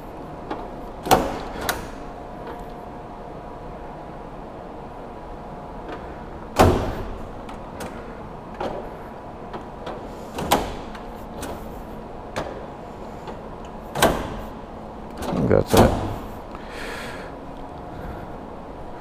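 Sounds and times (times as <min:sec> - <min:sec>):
shop hum: 0:00.0 - 0:19.0.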